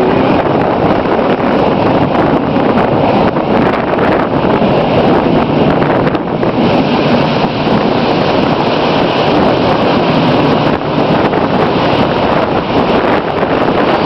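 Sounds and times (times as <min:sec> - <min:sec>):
train rushing at speed: 0:00.0 - 0:14.0
wind buffeting microphone: 0:00.0 - 0:14.0.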